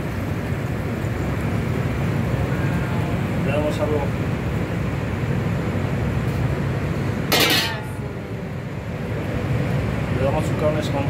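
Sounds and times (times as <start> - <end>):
kitchen ventilation rumble: 0.0 - 11.0.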